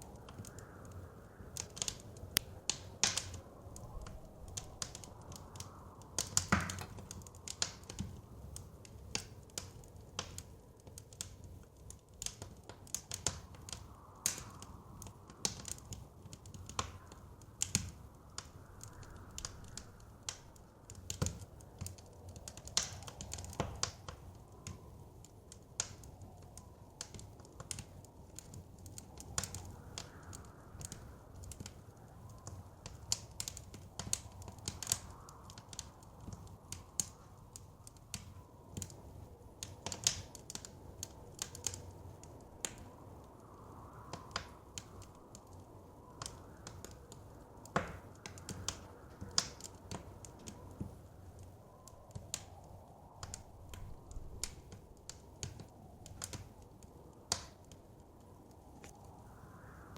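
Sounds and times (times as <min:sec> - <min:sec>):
soft wind: 0:00.0 - 0:59.9
wood fire crackling: 0:00.0 - 0:59.9.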